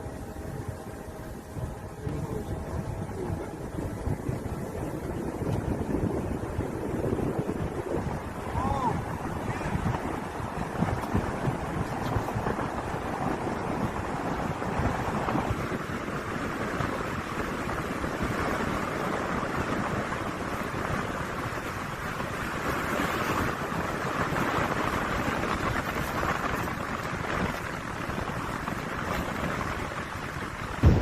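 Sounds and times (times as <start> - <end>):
rushing wind: 0.0 - 31.0
wind buffeting microphone: 0.0 - 31.0.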